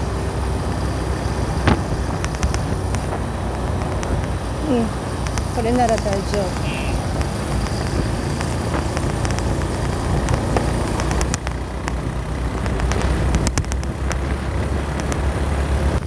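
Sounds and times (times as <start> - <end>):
moped engine running: 0.0 - 16.0
wind rushing over microphone: 0.0 - 16.0
sharp clicks: 1.7 - 4.4, 5.1 - 15.3.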